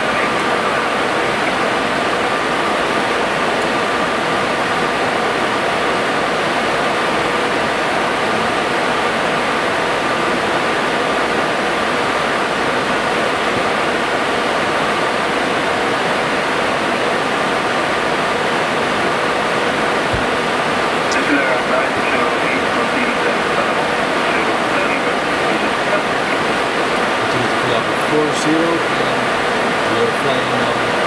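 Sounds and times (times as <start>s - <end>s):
airliner cabin airflow and engine: 0.0s - 31.0s
faint steady hum: 0.0s - 31.0s.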